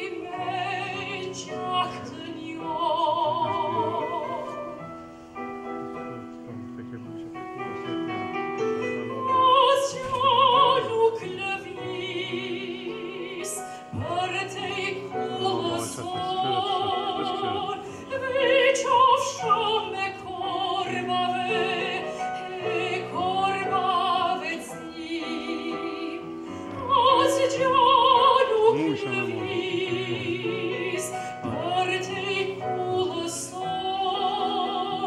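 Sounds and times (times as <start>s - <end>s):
soprano singing operatically: 0.0s - 4.8s, 9.2s - 35.0s
piano accompaniment: 0.0s - 35.0s.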